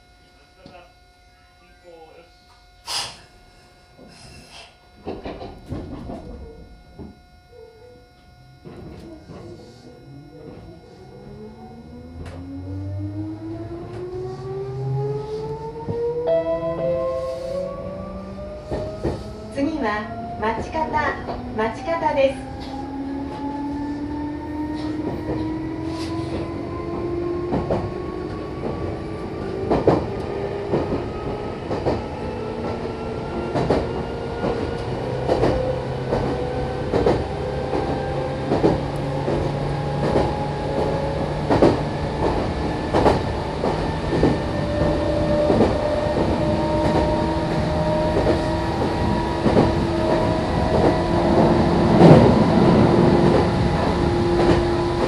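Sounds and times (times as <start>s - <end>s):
electric train motor whine: 0.0s - 55.0s.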